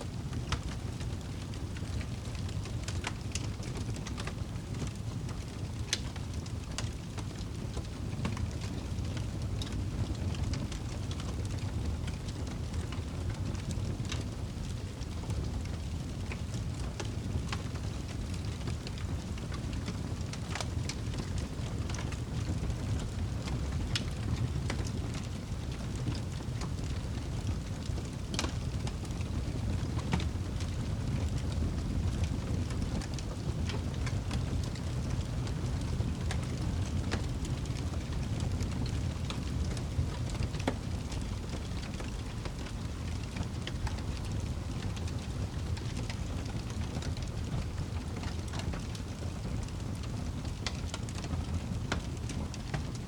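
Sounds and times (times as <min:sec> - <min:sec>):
campfire low rumble: 0:00.0 - 0:53.0
wood crackling and popping: 0:00.1 - 0:53.0.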